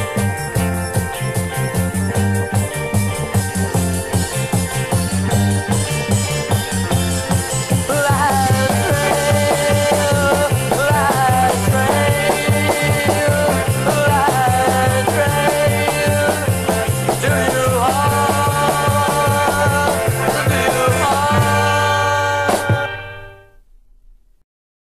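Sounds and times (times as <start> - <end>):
bass and drum rhythm: 0.0 - 23.2
sliding lead melody: 0.0 - 23.6.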